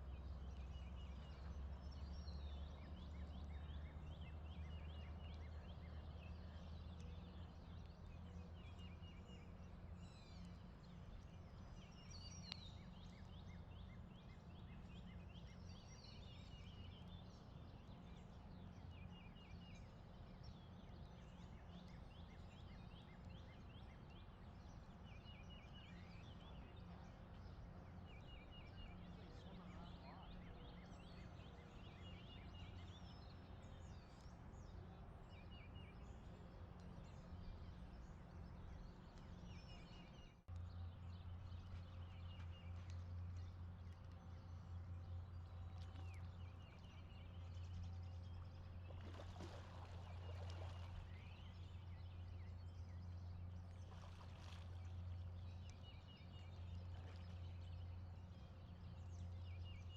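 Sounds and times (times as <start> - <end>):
small birds chirping: 0.3 - 59.9.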